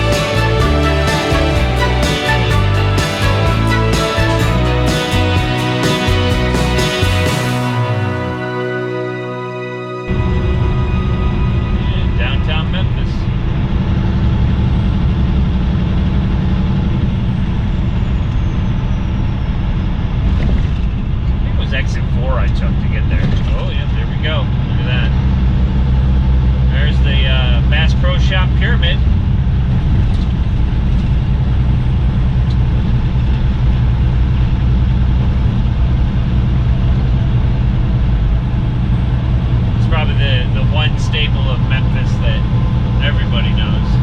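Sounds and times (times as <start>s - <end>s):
truck engine and road rumble: 0.0s - 44.0s.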